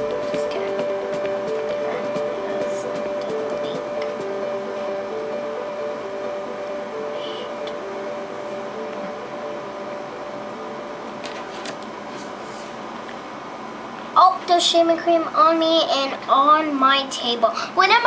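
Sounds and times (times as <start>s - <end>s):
faint hum: 0.0s - 18.0s
steady hissing noise: 0.0s - 18.0s.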